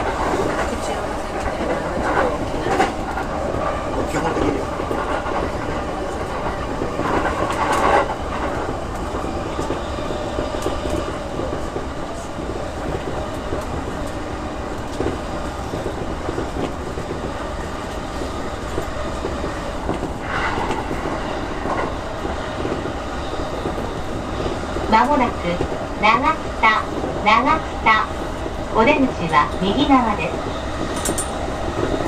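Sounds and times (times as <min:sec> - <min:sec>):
rail joints clacking: 0:00.0 - 0:32.0
train wheels rumbling on rail: 0:00.0 - 0:32.0.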